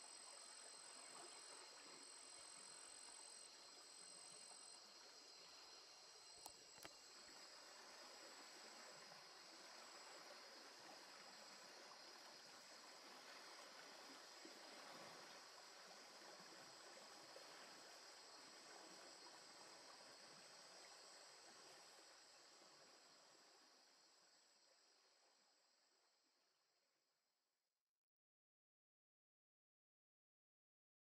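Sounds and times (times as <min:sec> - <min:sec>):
flowing river water: 0:00.0 - 0:26.0.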